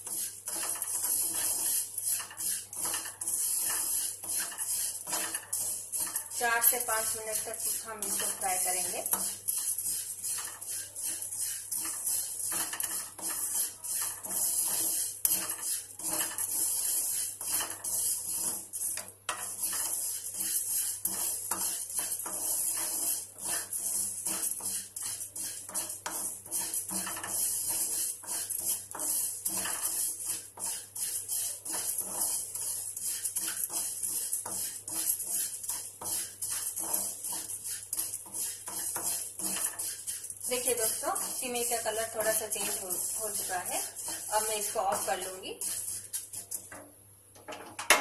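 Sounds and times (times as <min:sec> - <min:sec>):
spatula scraping a pan: 0:00.0 - 0:48.0.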